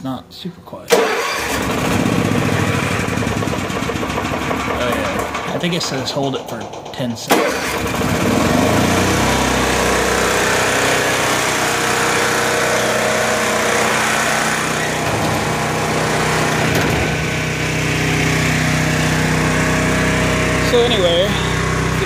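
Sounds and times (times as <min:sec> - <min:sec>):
generator engine running: 0:00.9 - 0:22.0.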